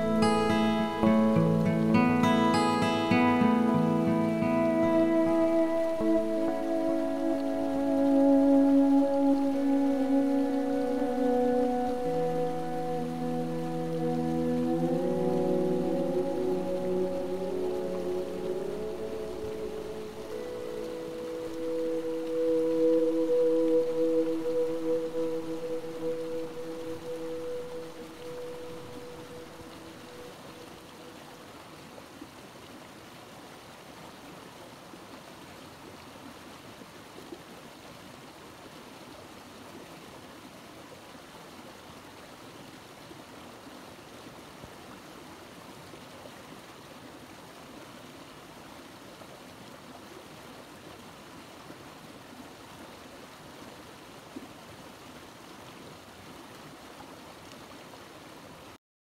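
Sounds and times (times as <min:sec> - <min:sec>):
stream running over rocks: 0:00.0 - 0:58.8.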